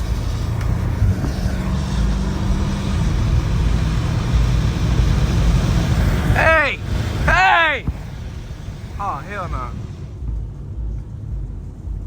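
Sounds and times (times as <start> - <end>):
tyres hissing on wet road: 0.0 - 10.8
car engine drone: 0.0 - 12.0.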